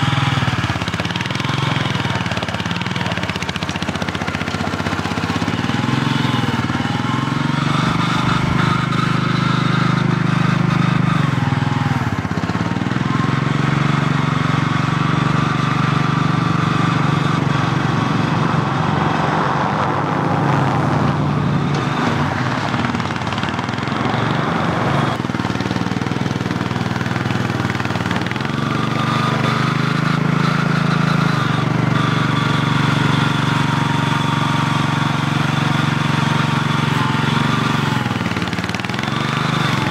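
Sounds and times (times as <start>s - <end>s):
small loader engine running: 0.0s - 39.9s
vehicle passing: 0.0s - 39.9s.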